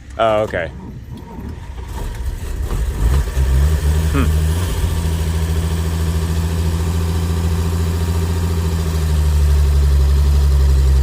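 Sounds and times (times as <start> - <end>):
old vehicle engine idling: 0.0 - 11.0.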